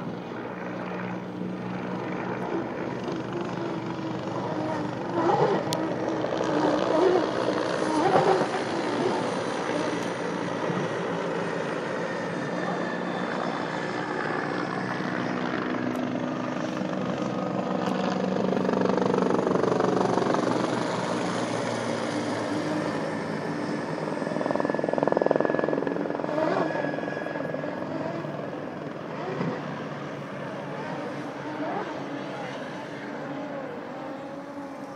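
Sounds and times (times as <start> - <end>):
distant powerboat engines: 0.0 - 34.9
helicopter rotor and engine: 0.0 - 34.9.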